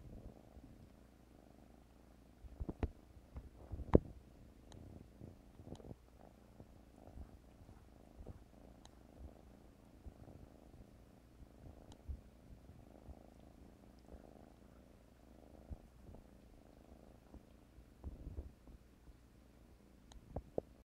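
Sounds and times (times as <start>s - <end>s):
cat purring: 0.0s - 20.8s.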